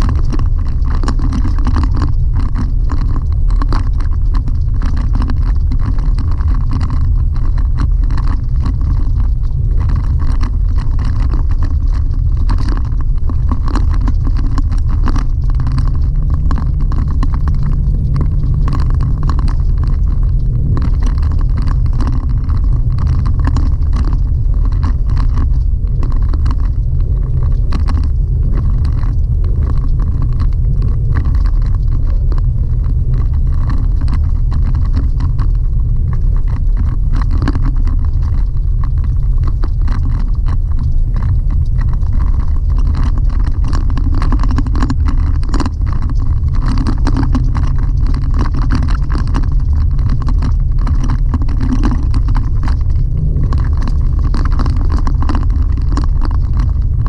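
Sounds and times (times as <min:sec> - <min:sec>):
road and engine rumble: 0:00.0 - 0:57.0
small clicks and rattles: 0:00.0 - 0:57.0.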